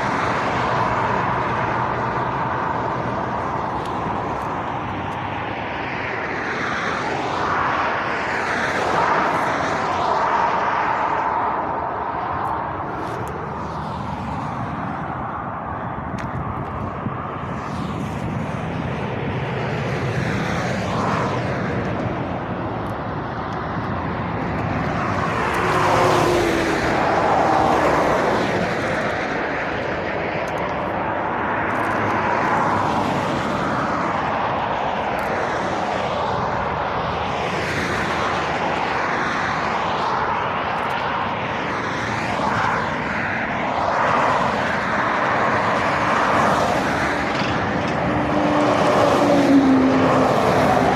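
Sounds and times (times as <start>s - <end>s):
cars and lorries passing: 0.0s - 50.9s.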